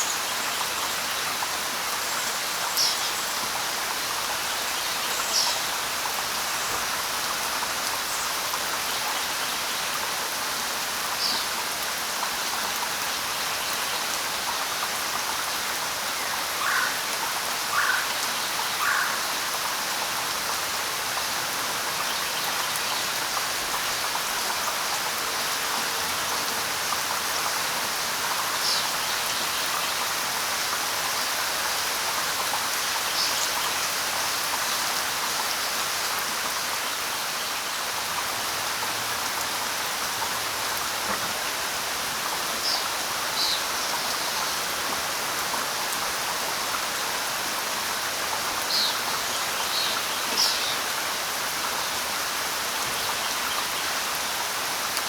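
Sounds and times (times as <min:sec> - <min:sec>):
rain pattering on leaves: 0:00.0 - 0:55.0.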